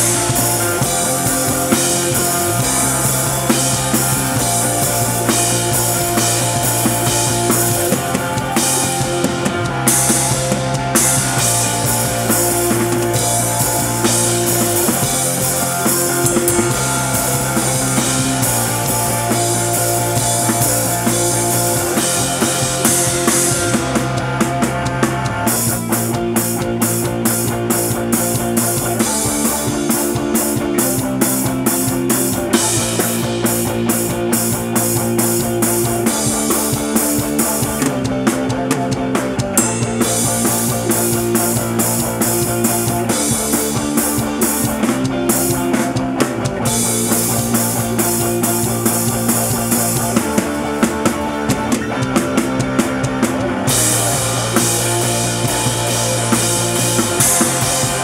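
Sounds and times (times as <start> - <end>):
rock backing track: 0.0 - 58.0
rock drum kit: 0.0 - 58.0.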